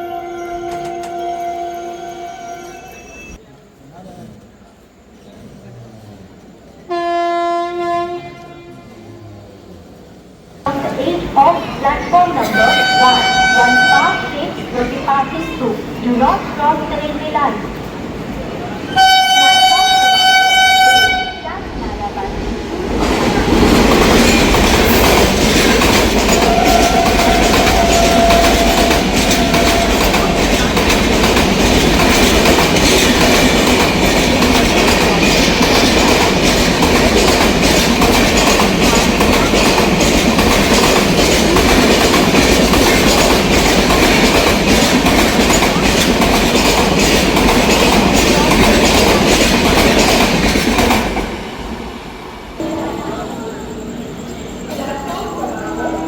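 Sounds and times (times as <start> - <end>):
train wheels rumbling on rails: 9.3 - 56.0.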